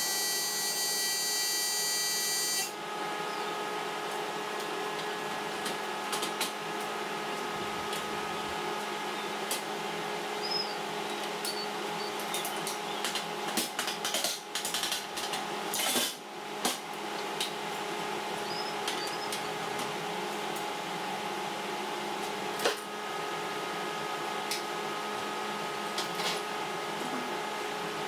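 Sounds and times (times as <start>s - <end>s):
electric hum of shop equipment: 0.0s - 28.0s.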